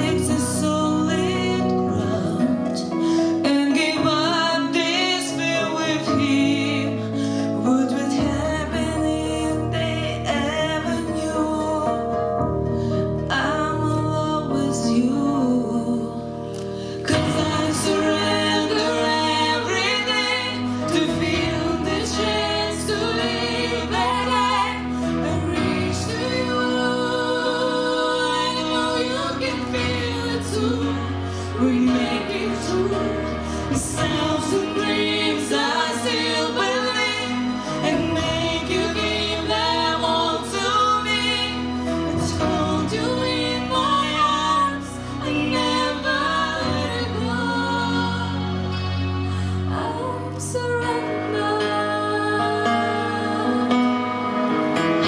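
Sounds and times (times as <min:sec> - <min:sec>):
women singing a ballad duet: 0:00.0 - 0:12.6, 0:13.2 - 0:55.0
instrumental accompaniment: 0:00.0 - 0:55.0.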